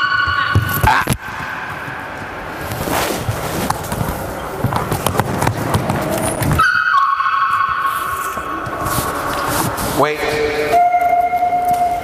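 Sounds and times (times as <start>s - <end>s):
footsteps: 0.0s - 6.8s, 7.4s - 12.0s.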